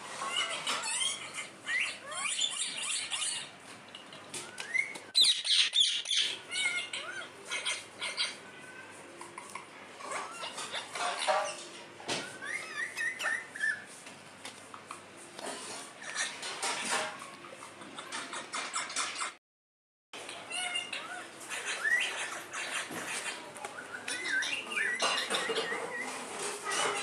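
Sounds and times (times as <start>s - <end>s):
parakeets chirping and squawking: 0.0s - 14.0s, 15.4s - 19.4s, 20.2s - 27.0s.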